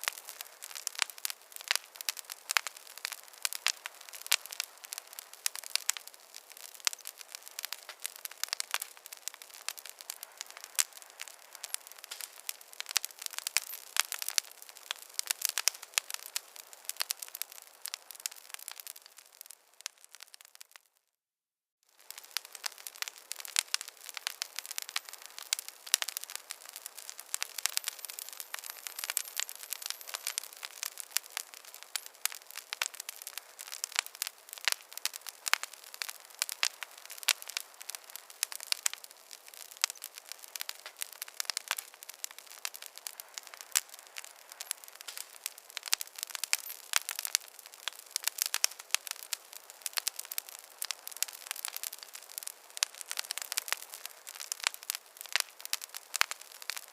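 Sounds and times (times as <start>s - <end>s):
wood fire crackling: 0.0s - 21.0s, 21.9s - 56.9s.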